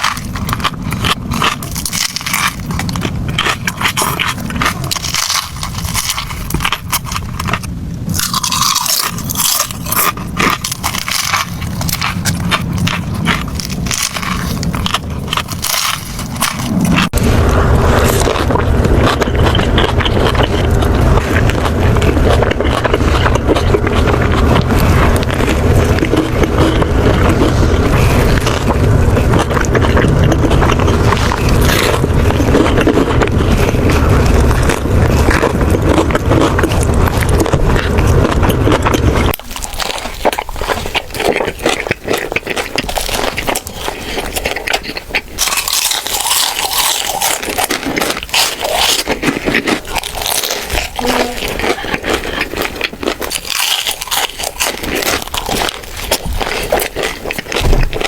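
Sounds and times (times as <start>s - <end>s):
biting and chewing: 0.0s - 58.0s
steady low rumble: 0.0s - 58.0s.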